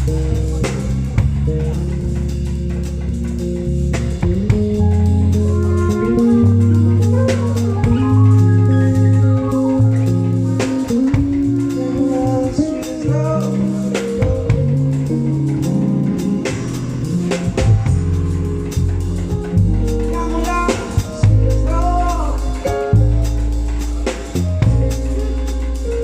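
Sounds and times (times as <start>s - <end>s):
drum kit: 0.0s - 26.0s
live band playing instrumental: 0.0s - 26.0s
long bass notes: 0.0s - 26.0s.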